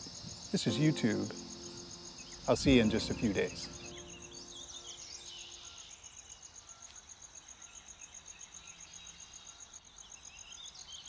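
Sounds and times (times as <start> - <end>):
insect chirping trill: 0.0 - 10.7.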